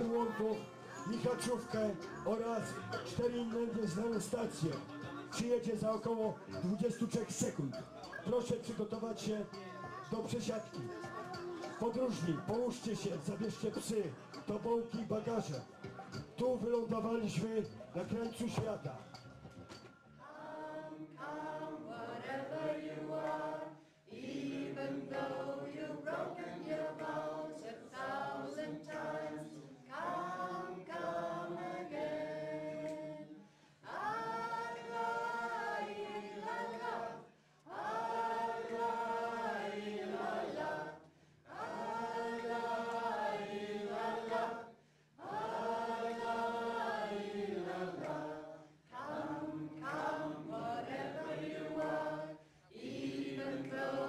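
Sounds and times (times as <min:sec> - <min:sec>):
choir singing a slow chant: 0:00.0 - 0:16.2, 0:20.1 - 0:54.0.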